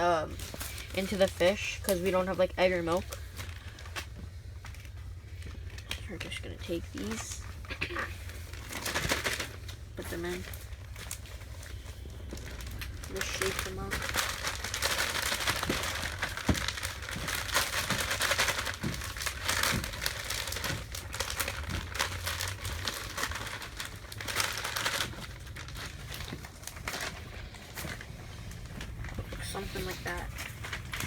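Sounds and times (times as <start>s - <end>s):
plastic bag rustling: 0.0s - 31.0s.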